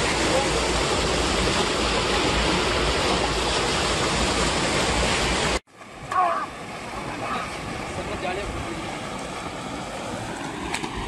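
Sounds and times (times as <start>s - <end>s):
quiet river background: 0.0s - 11.0s
water rushing over weir: 0.0s - 11.0s.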